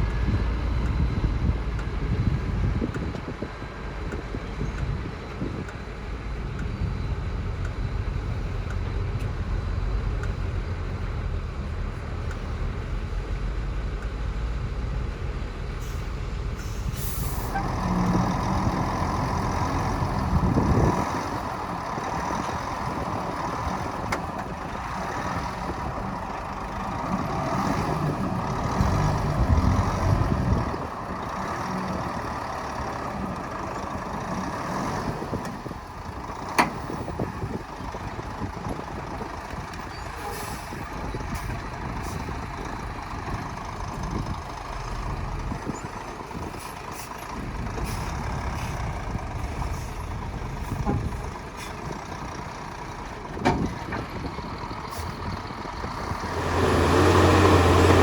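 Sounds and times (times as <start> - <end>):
diesel machinery engine rumble: 0.0 - 58.0.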